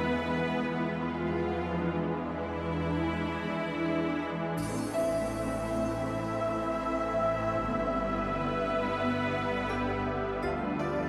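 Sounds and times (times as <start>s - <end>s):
calm new-age instrumental music: 0.0s - 11.0s.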